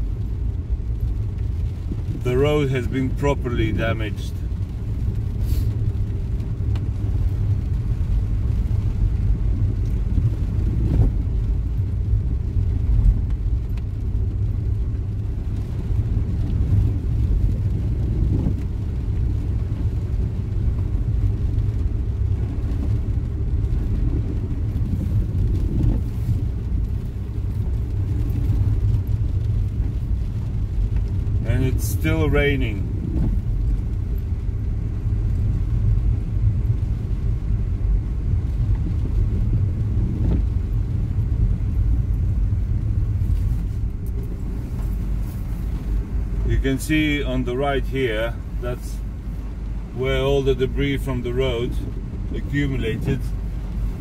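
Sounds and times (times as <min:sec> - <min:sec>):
engine and tyres rumble on wet road: 0:00.0 - 0:54.0.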